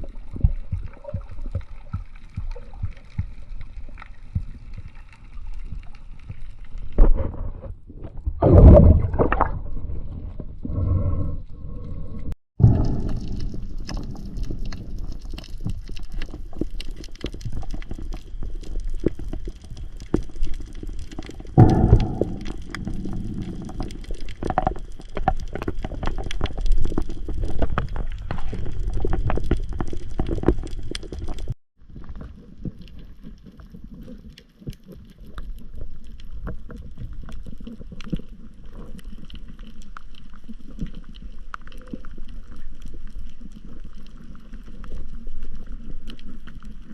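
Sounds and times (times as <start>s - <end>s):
water gurgling and crackling: 0.0s - 46.9s.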